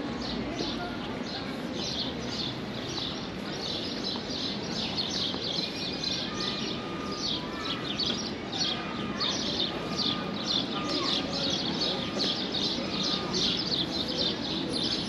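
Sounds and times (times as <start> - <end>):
street noise: 0.0 - 15.0
small birds chirping: 0.2 - 15.0.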